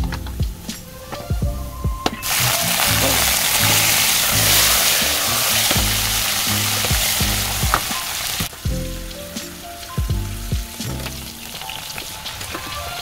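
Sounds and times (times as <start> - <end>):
garlic sizzling in hot oil: 2.2 - 13.0.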